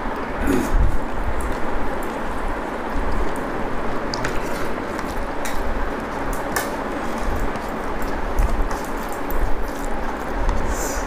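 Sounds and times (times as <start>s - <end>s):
steady hiss: 0.0s - 11.0s
food mixed by hand: 0.8s - 11.0s.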